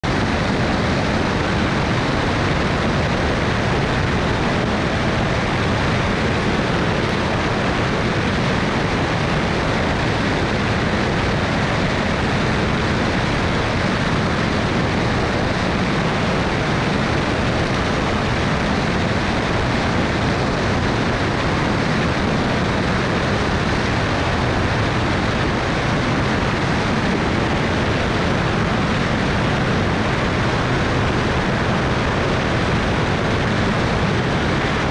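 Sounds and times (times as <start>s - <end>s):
airplane engine in flight: 0.0s - 34.9s.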